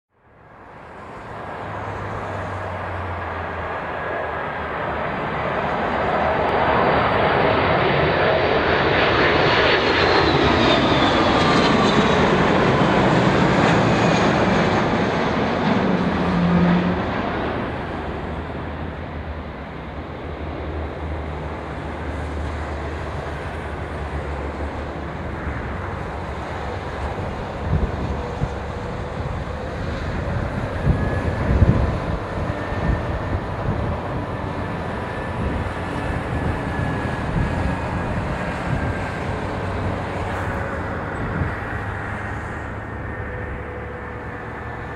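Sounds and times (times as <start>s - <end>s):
jet airliner passing overhead: 0.2s - 44.9s.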